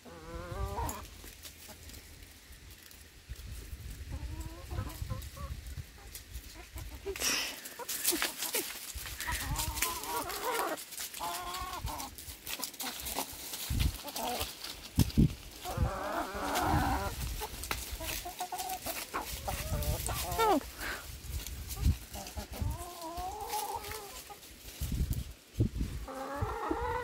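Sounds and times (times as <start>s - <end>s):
young chickens clucking: 0.0s - 2.2s, 3.5s - 27.0s.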